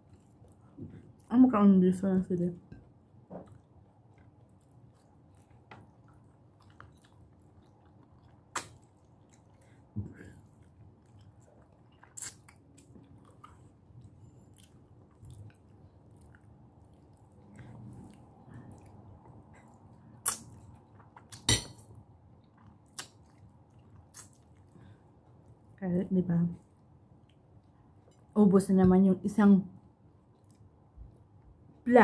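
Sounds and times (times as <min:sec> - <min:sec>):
person chewing food: 0:00.0 - 0:01.3, 0:02.6 - 0:25.8, 0:30.1 - 0:31.6.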